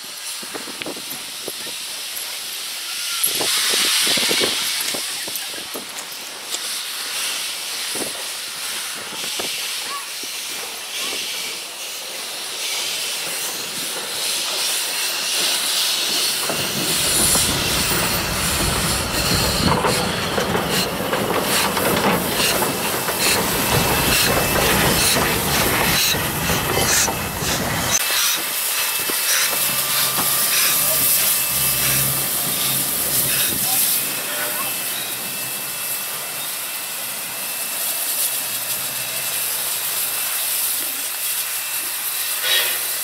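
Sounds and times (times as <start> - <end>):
steam locomotive hissing: 0.0 - 43.0.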